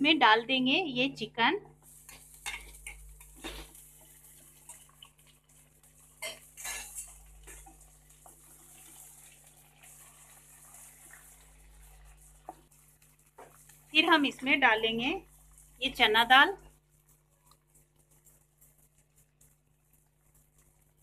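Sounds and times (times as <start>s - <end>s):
faint frying sizzle: 0.0s - 21.0s.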